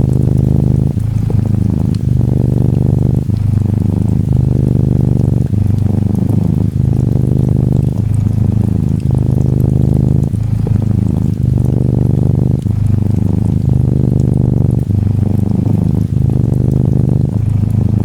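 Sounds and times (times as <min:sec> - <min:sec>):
cat purring loudly: 0:00.0 - 0:18.0
gentle rain pattering: 0:00.0 - 0:18.0.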